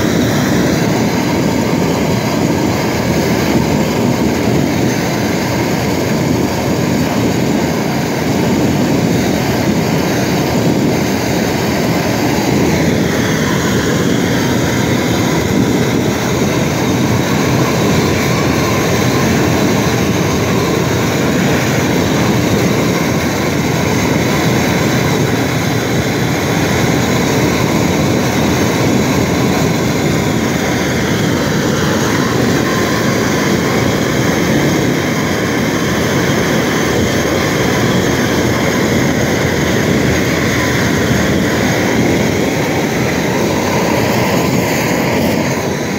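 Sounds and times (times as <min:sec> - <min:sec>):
torch flame rushing: 0:00.0 - 0:45.9.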